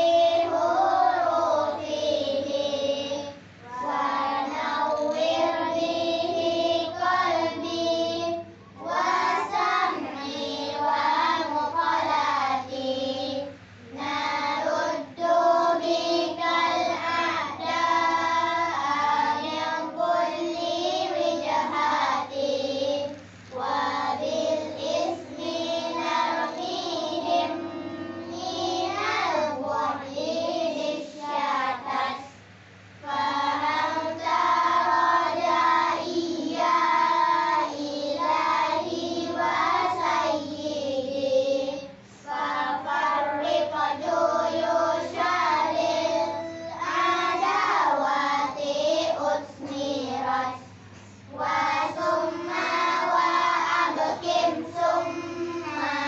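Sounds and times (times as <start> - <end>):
girls singing together: 0.0 - 56.0.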